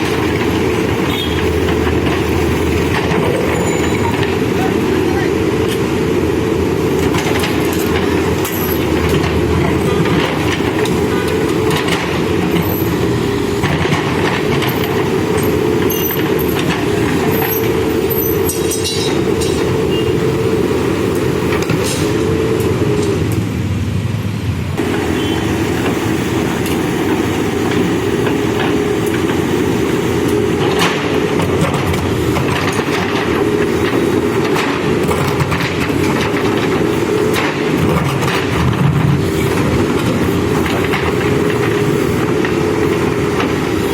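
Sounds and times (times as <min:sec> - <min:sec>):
bucket and arm clanking: 0:00.0 - 0:05.9, 0:06.8 - 0:20.1, 0:24.8 - 0:43.9
diesel engine running hard: 0:00.0 - 0:43.9.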